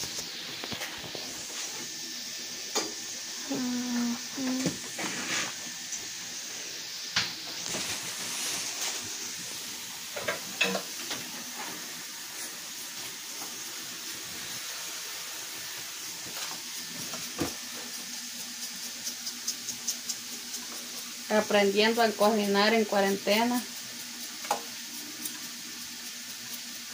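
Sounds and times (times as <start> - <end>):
potatoes sizzling in oil: 0.0 - 26.9.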